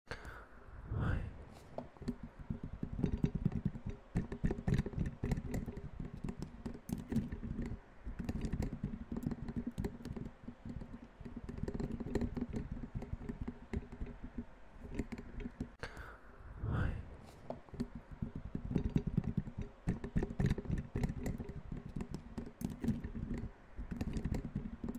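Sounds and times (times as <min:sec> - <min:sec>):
fast dull tapping: 0:01.8 - 0:15.8, 0:17.5 - 0:24.9.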